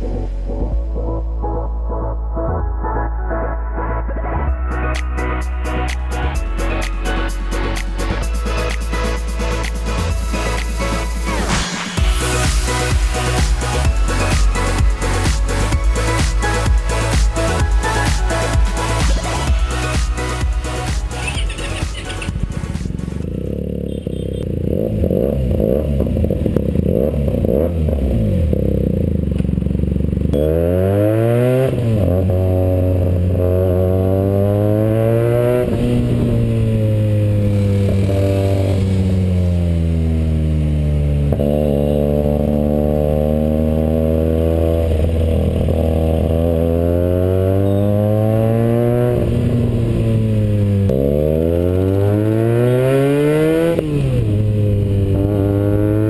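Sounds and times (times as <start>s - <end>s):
motorcycle engine revving: 6.6s - 56.0s.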